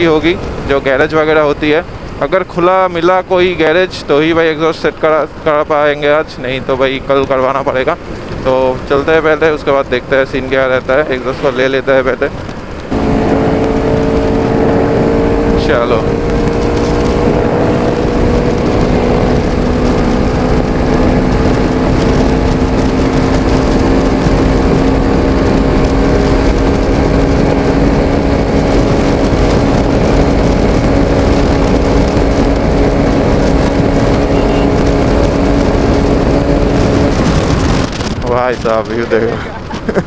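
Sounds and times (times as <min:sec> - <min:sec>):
motorcycle engine cruising: 0:00.0 - 0:40.0
road rumble: 0:00.0 - 0:40.0
wind buffeting microphone: 0:00.0 - 0:40.0.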